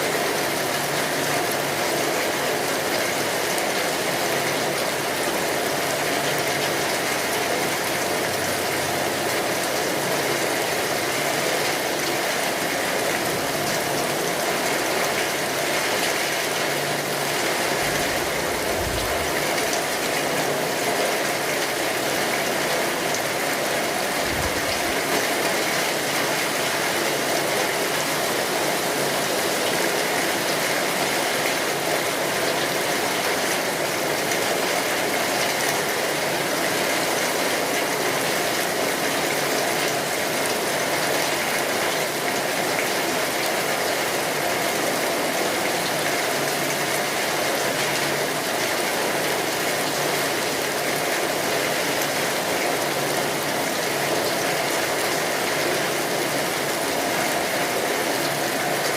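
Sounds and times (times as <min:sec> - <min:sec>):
rain on a tin roof: 0:00.0 - 0:58.9.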